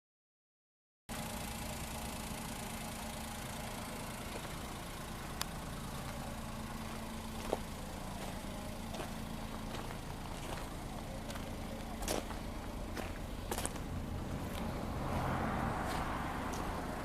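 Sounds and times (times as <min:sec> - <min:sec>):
car engine idling: 0:01.1 - 0:17.0.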